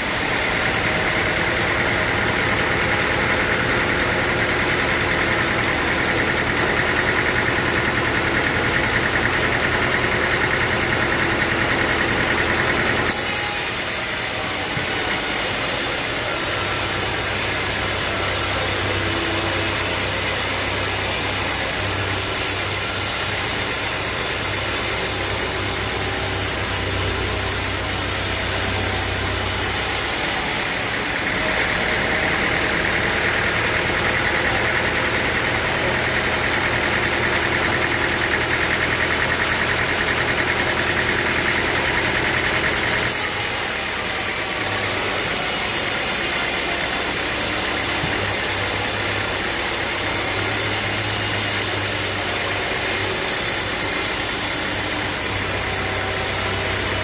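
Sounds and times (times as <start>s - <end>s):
harsh high-pitched machine sound: 0.0s - 57.0s
sawmill machinery humming: 0.0s - 57.0s.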